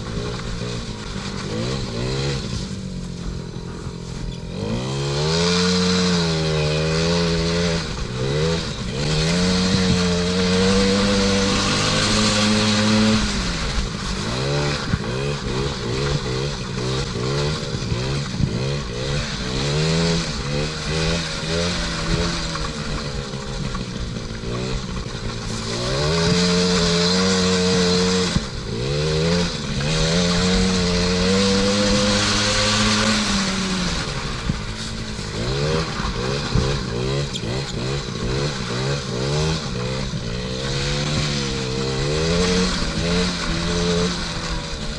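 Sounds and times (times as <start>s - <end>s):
small two-stroke engine revving: 0.0s - 44.9s.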